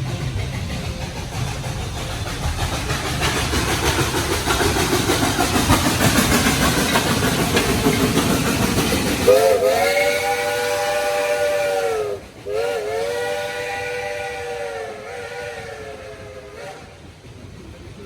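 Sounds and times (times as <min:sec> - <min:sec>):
steam locomotive rumble and hiss: 0:00.0 - 0:18.0.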